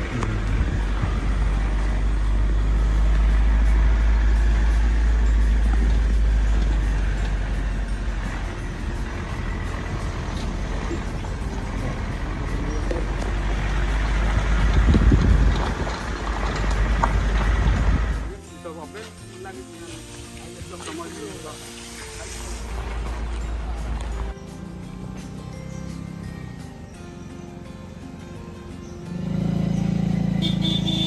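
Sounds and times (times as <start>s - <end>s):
motor vehicle running: 0.0s - 19.1s, 19.8s - 31.0s.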